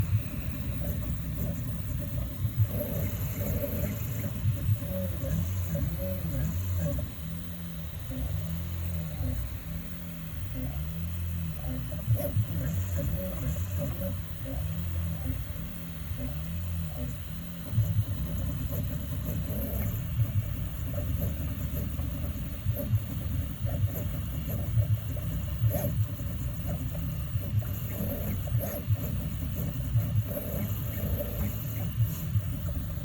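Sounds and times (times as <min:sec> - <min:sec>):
printer running: 0:00.0 - 0:33.0.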